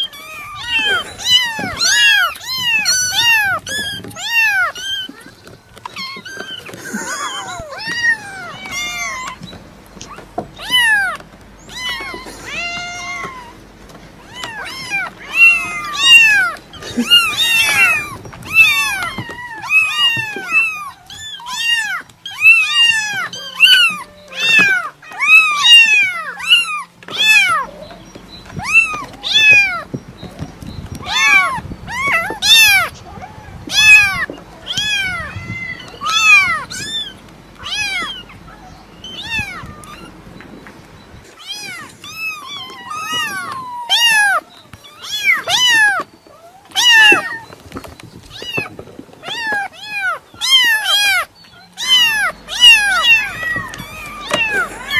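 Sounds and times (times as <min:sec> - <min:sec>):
cat meowing: 0:00.0 - 0:13.6, 0:14.2 - 0:27.8, 0:28.5 - 0:29.9, 0:31.0 - 0:40.1, 0:41.4 - 0:47.6, 0:48.3 - 0:54.9.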